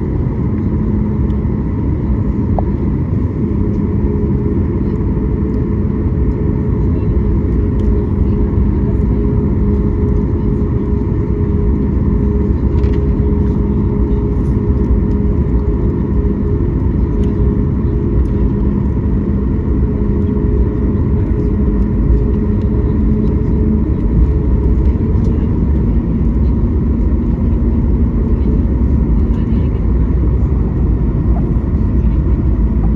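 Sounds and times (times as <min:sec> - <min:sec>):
jet engine rumble in cabin: 0:00.0 - 0:32.9.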